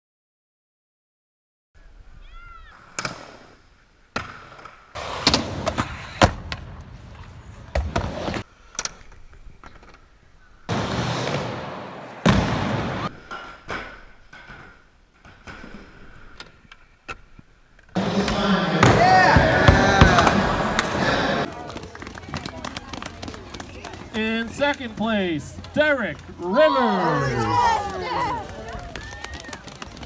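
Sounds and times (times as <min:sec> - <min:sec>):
skateboard wheels rolling: 0:02.6 - 0:30.0.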